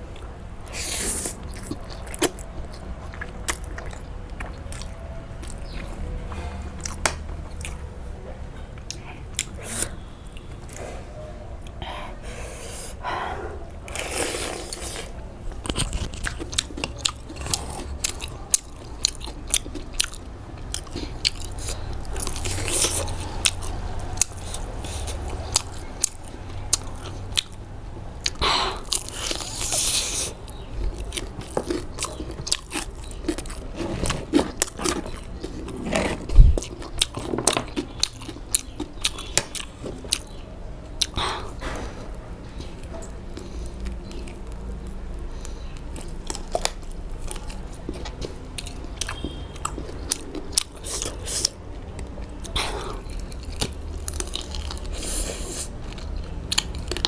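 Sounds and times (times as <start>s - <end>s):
chewing and crunching food: 0.0s - 11.9s, 13.6s - 57.0s.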